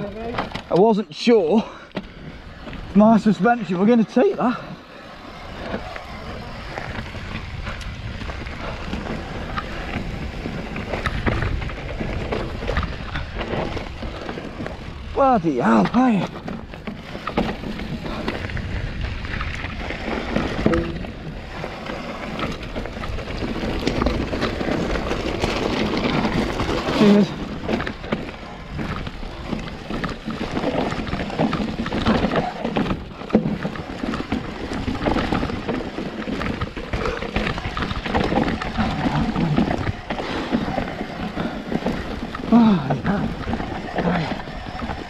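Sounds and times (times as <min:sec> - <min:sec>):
bike tyres clattering over stone: 0:00.0 - 0:45.0.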